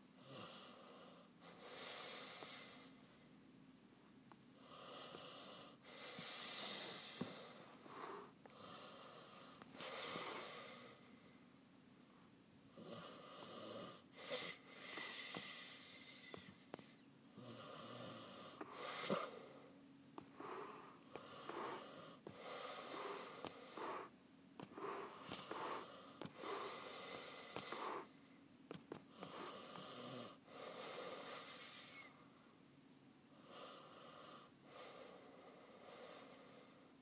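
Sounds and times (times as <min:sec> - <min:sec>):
person breathing close: 0:00.7 - 0:03.2, 0:04.6 - 0:11.5, 0:14.0 - 0:28.4, 0:29.1 - 0:32.4, 0:33.4 - 0:37.0.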